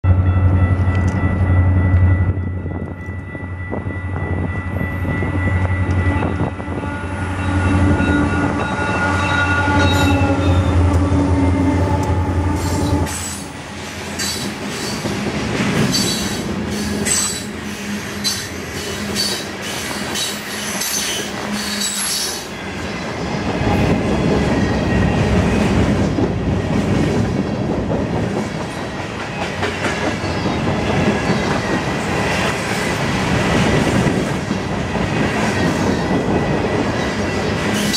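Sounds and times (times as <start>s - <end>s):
diesel locomotive engines humming: 0.0s - 37.9s.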